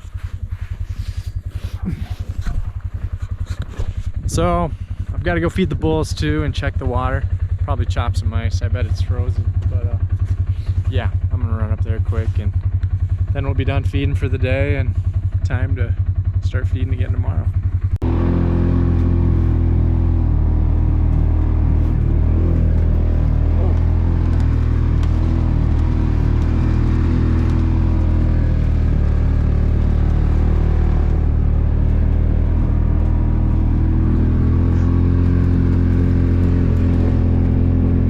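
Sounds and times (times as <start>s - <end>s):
vehicle engine droning: 0.0s - 38.0s.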